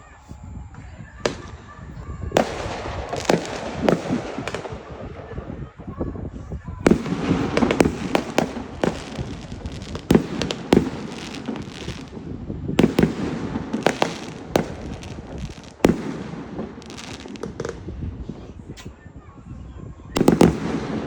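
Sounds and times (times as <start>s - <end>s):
fireworks crackling: 0.0s - 19.0s, 20.1s - 21.0s
fireworks bangs: 0.7s - 19.0s, 20.1s - 21.0s.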